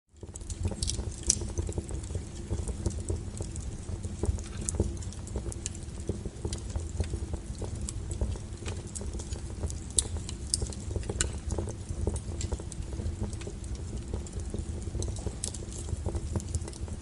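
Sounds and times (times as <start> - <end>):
wood fire crackling: 0.1 - 17.0.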